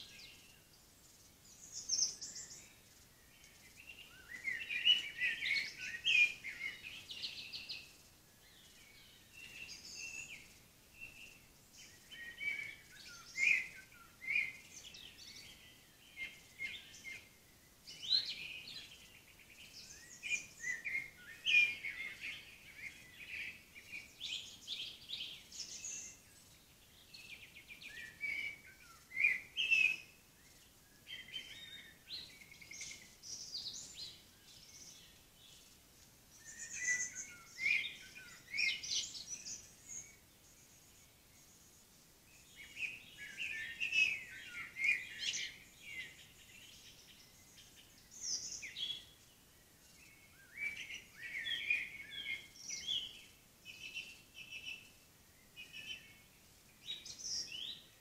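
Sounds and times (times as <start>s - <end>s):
faint steady hiss: 0.0s - 58.0s
songbirds singing: 0.0s - 58.0s.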